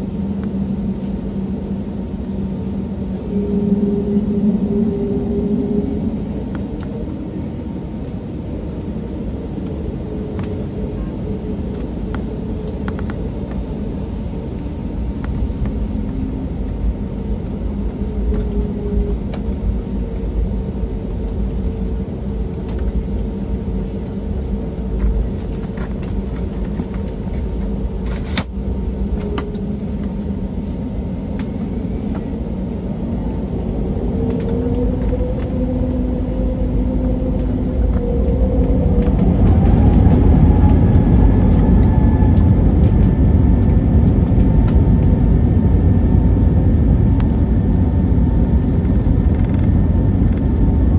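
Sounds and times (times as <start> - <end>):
jet engines humming in cabin: 0.0 - 50.9.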